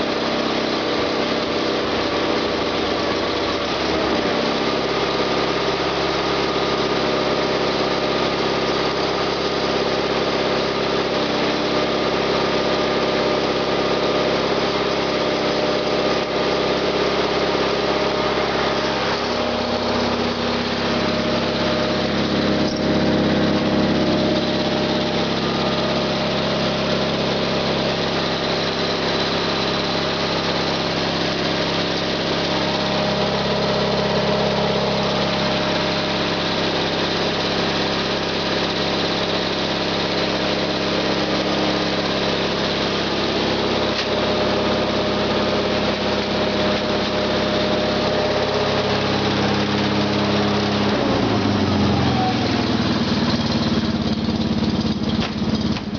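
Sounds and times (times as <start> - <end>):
small tractor engine running: 0.0 - 55.9.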